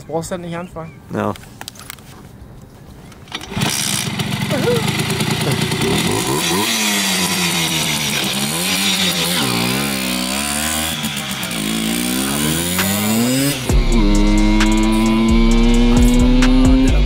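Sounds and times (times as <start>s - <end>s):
moped engine revving: 3.3s - 17.0s.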